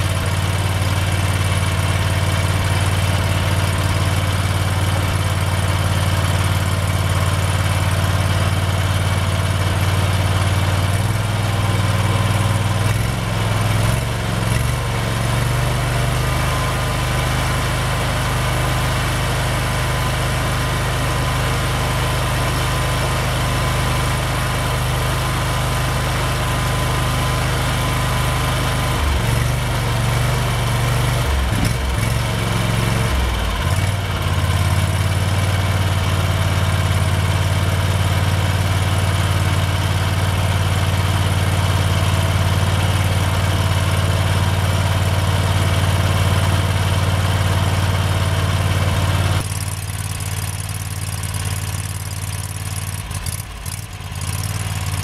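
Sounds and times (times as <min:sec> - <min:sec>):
petrol engine running: 0:00.0 - 0:55.0.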